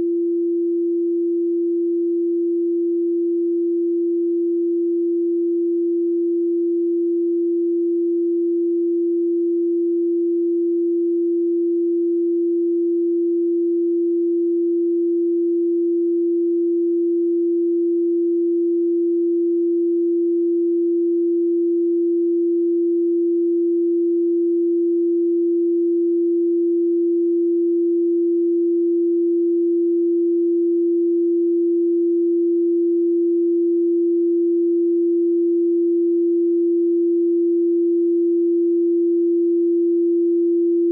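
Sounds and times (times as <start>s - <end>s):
steady sine tone: 0.0s - 40.9s.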